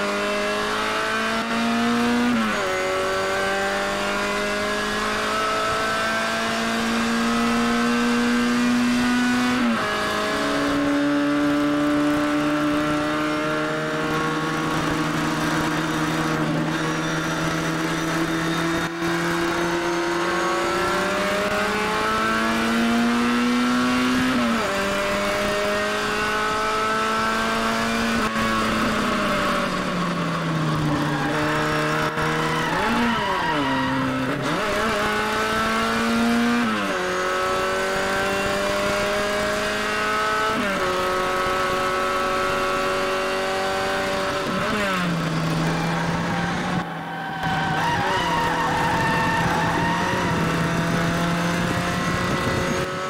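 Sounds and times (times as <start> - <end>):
car engine at full throttle: 0.0 - 53.0.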